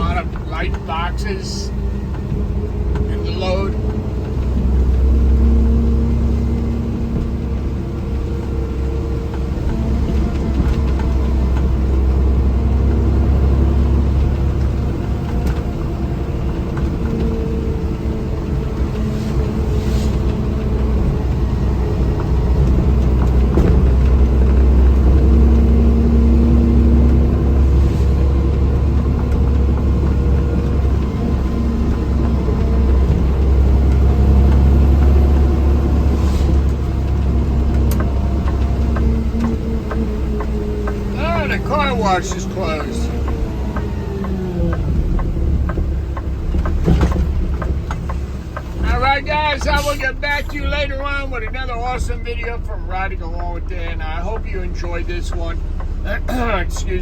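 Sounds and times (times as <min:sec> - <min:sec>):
road rumble: 0:00.0 - 0:57.0
vehicle engine drone: 0:00.0 - 0:57.0.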